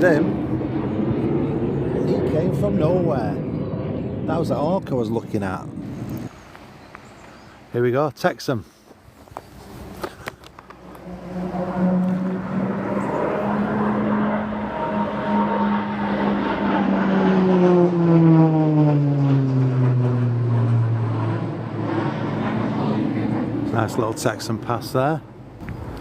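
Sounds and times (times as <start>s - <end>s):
propeller plane passing: 0.0s - 26.0s.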